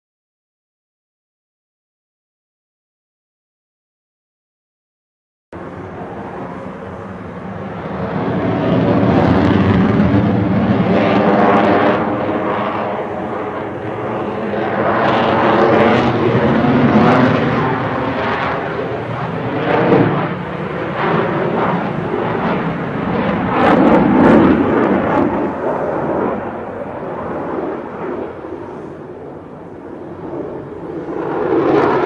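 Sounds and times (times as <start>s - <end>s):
jet airplane engine: 5.6s - 32.0s.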